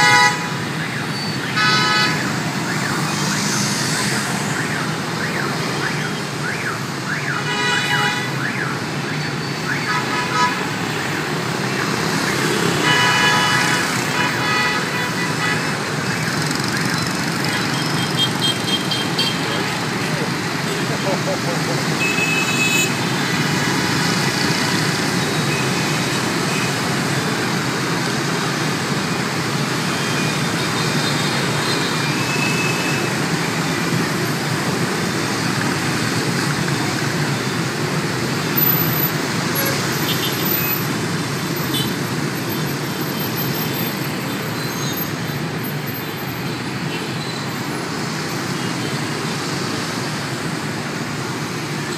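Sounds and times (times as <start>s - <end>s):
cars passing: 0.0s - 51.9s
scooter and motorbike traffic: 0.0s - 51.9s.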